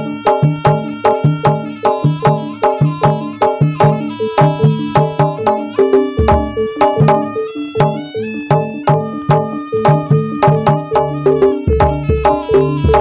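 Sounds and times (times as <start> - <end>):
gamelan ensemble playing: 0.0 - 13.0.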